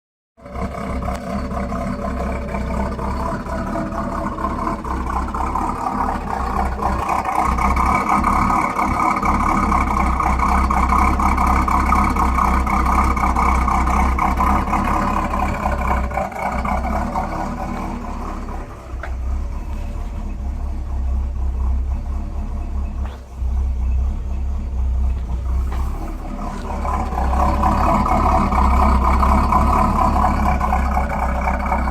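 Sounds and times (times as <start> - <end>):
car exhaust rumble: 0.4 - 31.9.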